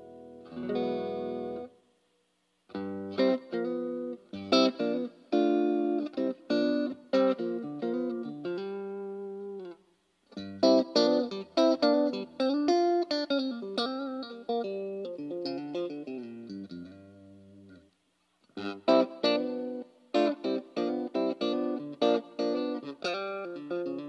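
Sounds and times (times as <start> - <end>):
electric guitar playing: 0.0 - 1.8, 2.7 - 17.9, 18.5 - 24.0.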